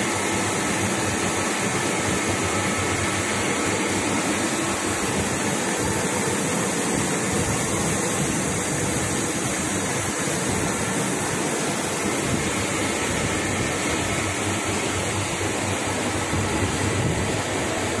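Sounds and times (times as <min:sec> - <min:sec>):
metal spray gun hissing: 0:00.0 - 0:18.0.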